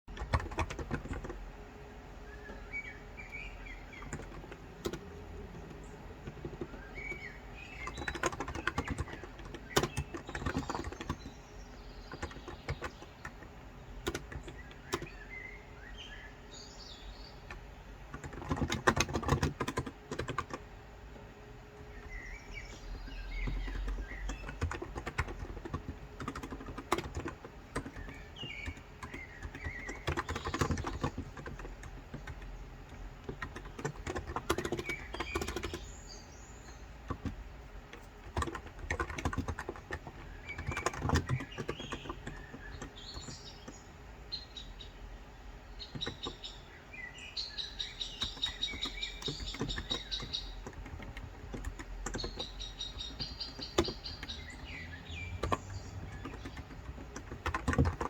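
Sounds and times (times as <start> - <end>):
birds chirping: 0.0 - 58.0
keyboard typing: 0.1 - 1.6, 2.3 - 15.4, 17.4 - 20.8, 21.8 - 36.0, 36.6 - 43.9, 45.8 - 46.6, 47.6 - 58.0.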